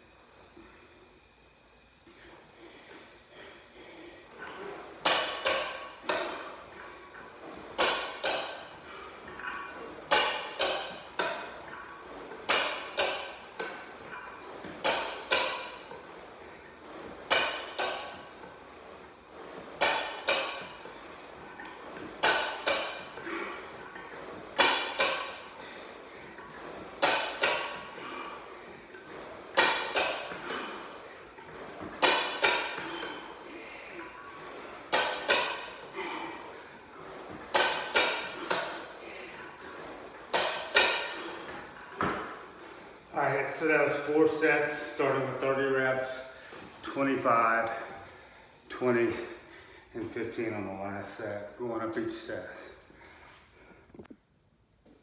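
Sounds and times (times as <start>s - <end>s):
weight machine metal clanks: 2.1s - 51.2s.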